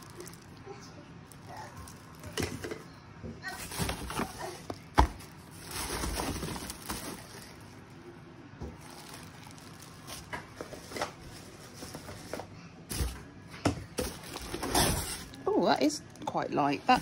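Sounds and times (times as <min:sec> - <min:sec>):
plastic bags crinkling: 0:00.0 - 0:02.8, 0:03.4 - 0:08.0, 0:08.8 - 0:13.1, 0:14.0 - 0:16.2.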